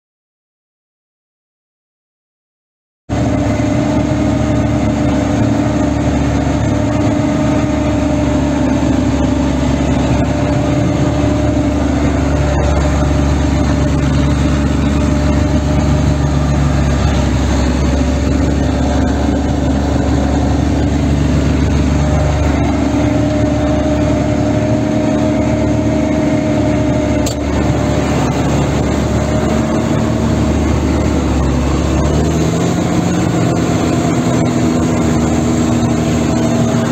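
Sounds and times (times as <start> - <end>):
tractor diesel engine running: 3.1 - 36.9.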